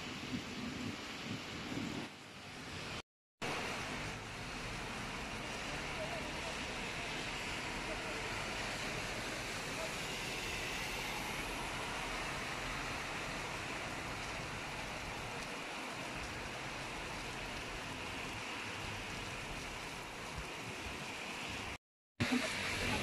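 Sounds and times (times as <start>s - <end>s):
rain falling on pavement: 0.0s - 23.0s.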